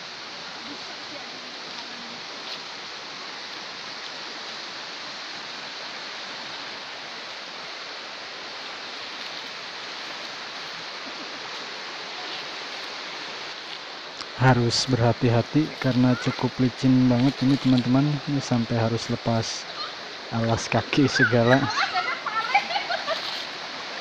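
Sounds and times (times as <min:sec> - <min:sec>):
river flowing over rocks: 0:00.0 - 0:24.0.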